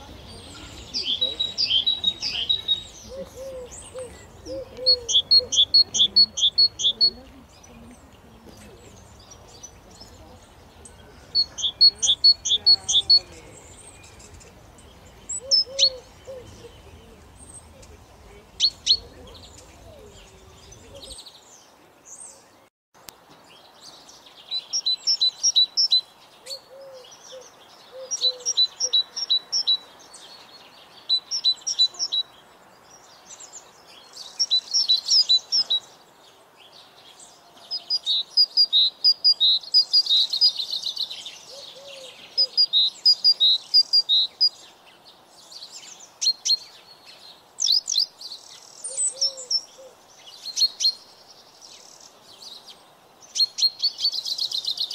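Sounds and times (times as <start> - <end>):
songbirds chirping: 0.0 - 54.9.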